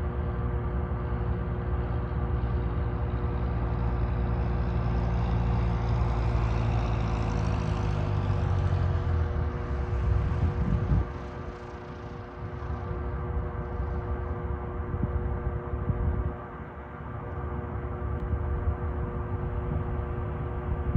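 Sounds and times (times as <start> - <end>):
aircraft engine running: 0.0 - 20.9.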